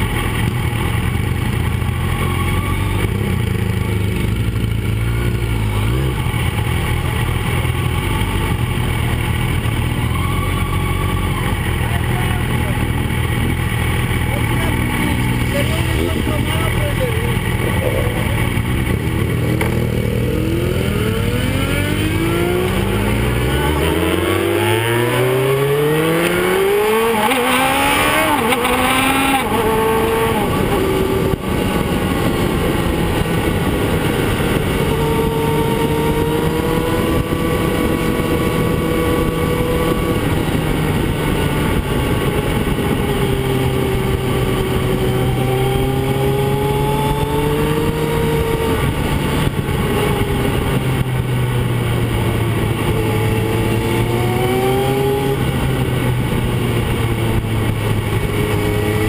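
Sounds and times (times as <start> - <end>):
motorcycle engine: 0.0 - 59.0
wind and road noise: 0.0 - 59.0.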